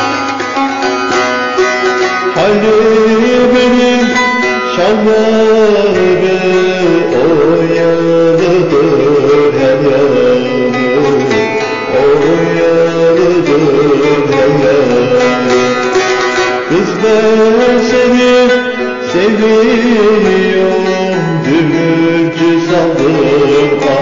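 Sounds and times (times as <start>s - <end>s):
person singing: 0.0s - 24.0s
plucked string melody: 0.0s - 24.0s.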